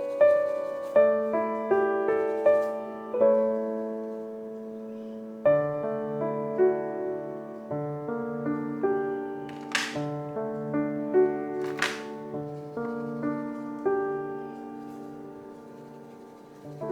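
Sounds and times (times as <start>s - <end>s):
gentle solo piano: 0.0s - 16.9s.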